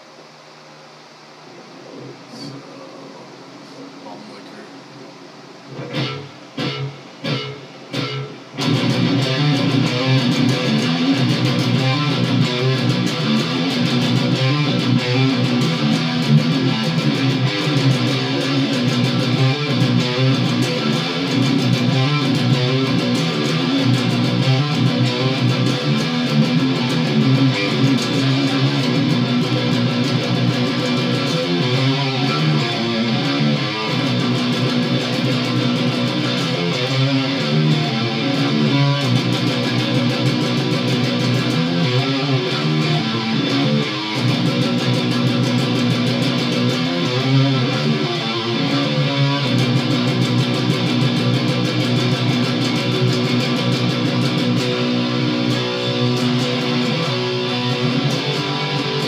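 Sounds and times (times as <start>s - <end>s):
electric guitar riff: 5.6s - 59.0s.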